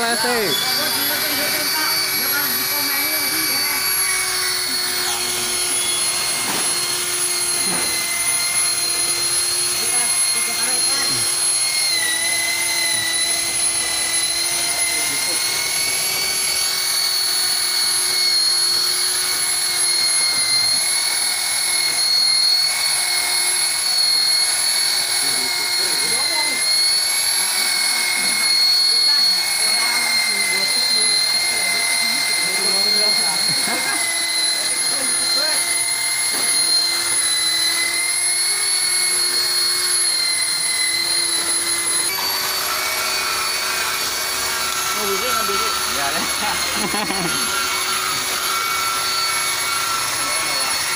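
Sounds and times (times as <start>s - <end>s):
car polisher motor whine: 0.0s - 50.9s.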